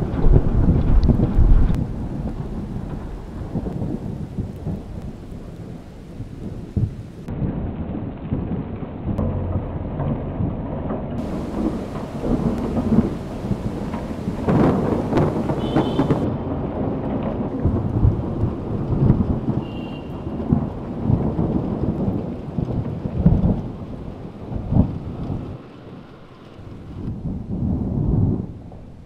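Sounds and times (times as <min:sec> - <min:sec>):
rain rushing: 0:00.0 - 0:29.0
thunder rumbling and cracking: 0:00.0 - 0:29.0.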